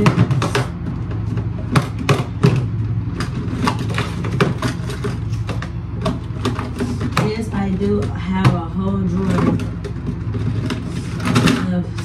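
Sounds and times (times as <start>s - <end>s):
small bottles knocking and clattering: 0.0s - 11.8s
steady low hum: 0.0s - 12.0s.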